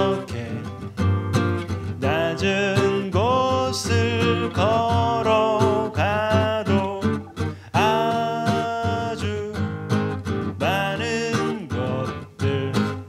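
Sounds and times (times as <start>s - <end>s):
man singing slow song: 0.0s - 1.0s, 1.8s - 13.0s
strummed acoustic guitar: 0.0s - 13.0s.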